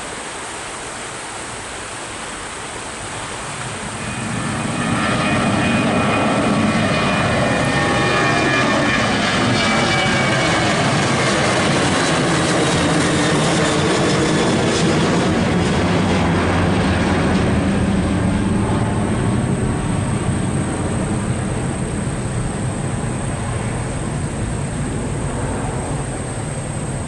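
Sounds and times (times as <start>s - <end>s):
airliner engines running: 0.0s - 27.0s
high whine: 3.5s - 27.0s.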